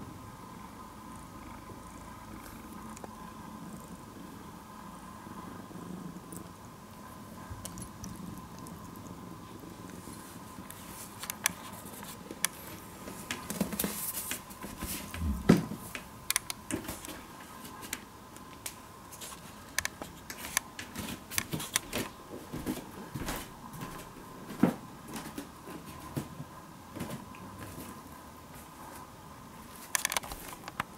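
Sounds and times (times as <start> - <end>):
faint high hum: 0.0 - 30.9.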